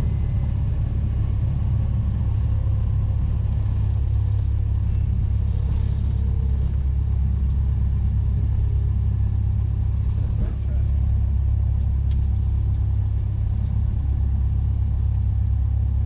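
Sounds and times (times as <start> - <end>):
aircraft engine low rumble: 0.0 - 16.0.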